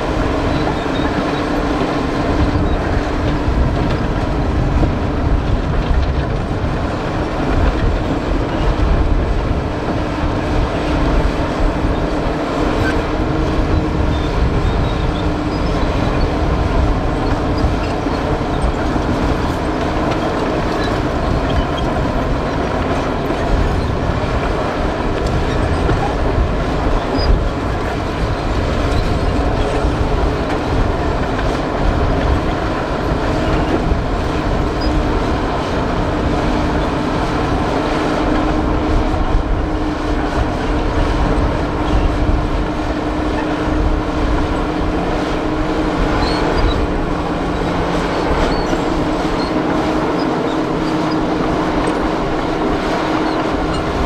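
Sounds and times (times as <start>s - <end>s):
bulldozer diesel engine running: 0.0s - 54.0s
steel tracks clattering: 0.0s - 54.0s.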